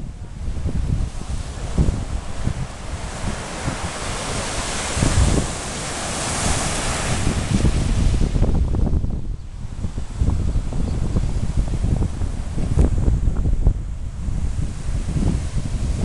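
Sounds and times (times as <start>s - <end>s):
waves breaking on shore: 0.0s - 16.0s
wind buffeting microphone: 0.0s - 16.0s.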